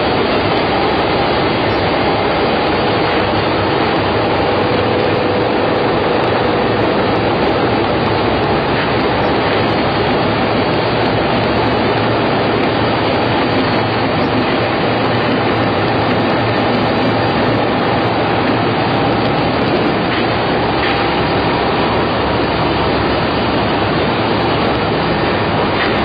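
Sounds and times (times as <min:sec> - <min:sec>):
production machine din: 0:00.0 - 0:26.0.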